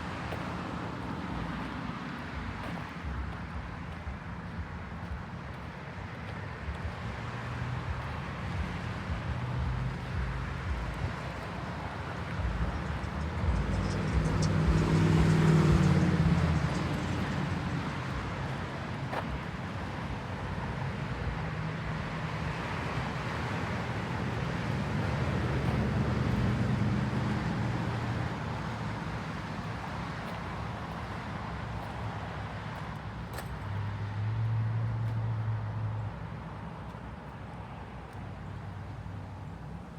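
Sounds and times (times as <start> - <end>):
vehicle passing: 0.0 - 36.9
traffic engine rumble: 0.0 - 39.9.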